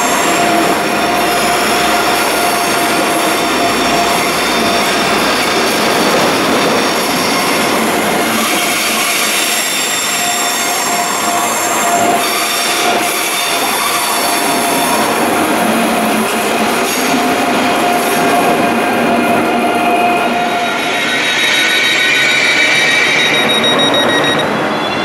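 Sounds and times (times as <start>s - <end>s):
train running on rails: 0.0s - 25.0s
train wheels squealing: 0.0s - 25.0s.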